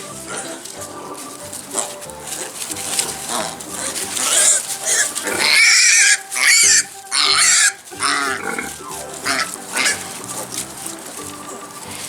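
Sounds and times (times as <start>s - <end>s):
piglet squealing: 0.0s - 12.0s.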